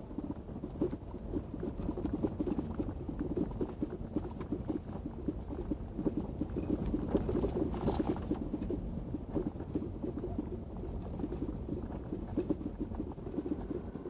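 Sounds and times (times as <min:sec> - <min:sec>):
tyres rumbling on cobblestones: 0:00.0 - 0:14.0.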